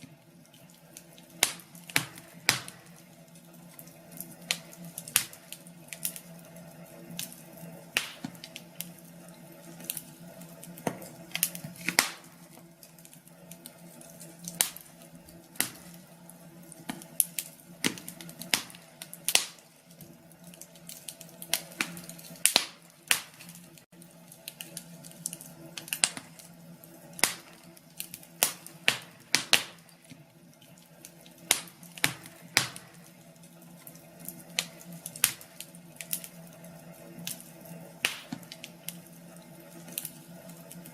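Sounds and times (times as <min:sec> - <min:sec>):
soft steady hum: 0:00.0 - 0:40.9
wood fire crackling and popping: 0:00.0 - 0:40.9.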